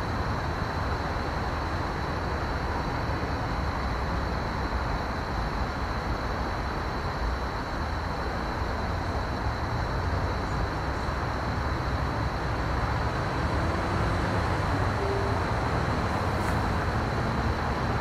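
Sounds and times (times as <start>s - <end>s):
highway traffic rush: 0.0s - 18.0s.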